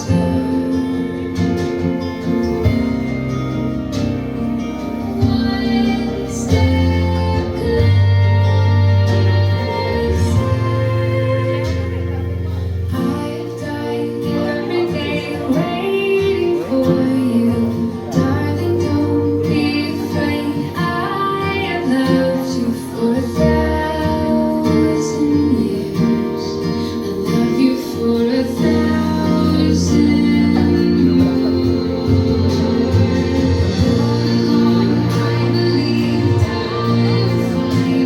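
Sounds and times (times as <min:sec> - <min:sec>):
woman singing over guitar and bass: 0:00.0 - 0:38.0.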